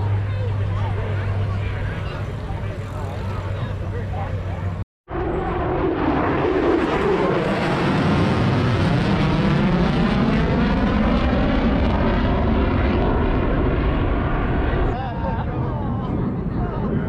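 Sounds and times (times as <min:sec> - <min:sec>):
aircraft engine roar: 0:00.0 - 0:17.0.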